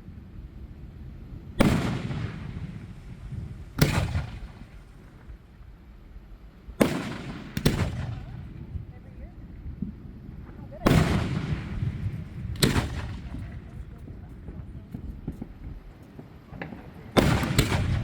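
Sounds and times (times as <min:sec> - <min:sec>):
fireworks booming: 0:01.5 - 0:05.5, 0:06.8 - 0:08.9, 0:09.5 - 0:18.0.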